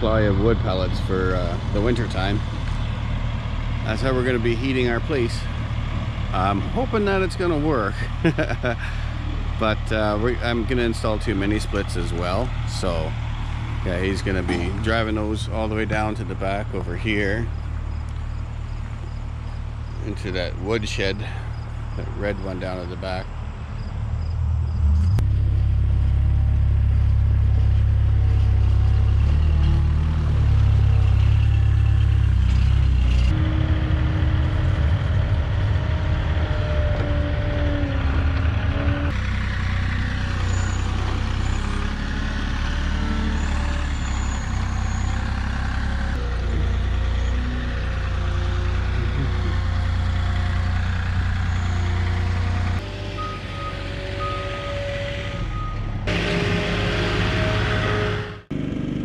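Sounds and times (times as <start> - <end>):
forklift engine running: 0.0 - 23.8, 24.4 - 59.0.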